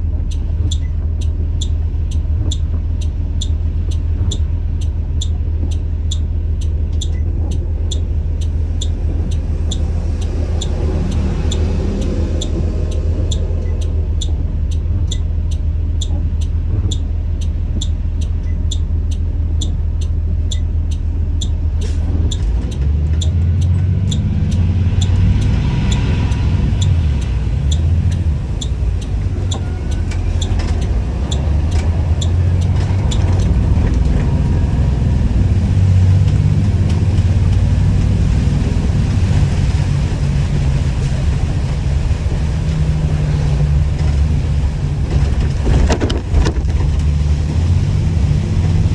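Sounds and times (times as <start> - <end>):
bus engine running: 0.0 - 48.9
even engine ticking: 0.0 - 48.9.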